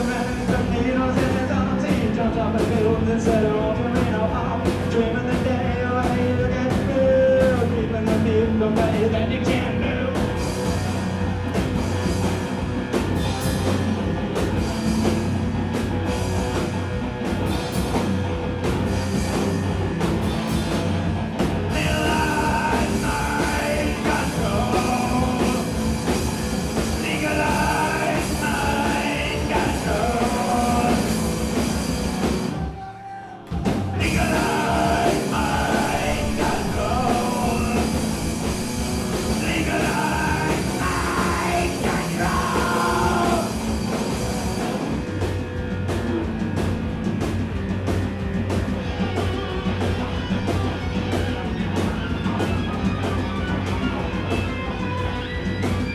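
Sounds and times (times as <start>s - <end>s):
drums with cymbal hits: 0.0s - 55.9s
electric guitar: 0.0s - 55.9s.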